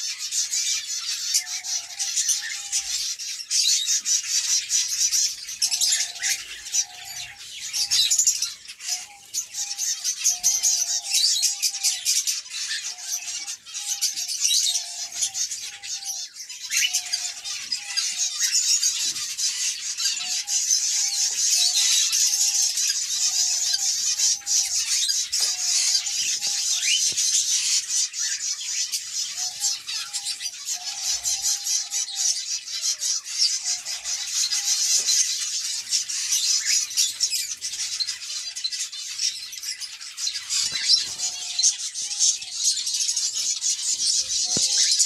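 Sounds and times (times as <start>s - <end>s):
high chirping of small birds: 0.0s - 45.0s.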